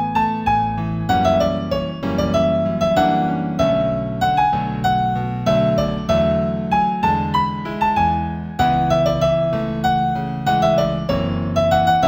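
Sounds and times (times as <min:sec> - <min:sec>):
new-age keyboard music: 0:00.0 - 0:12.0.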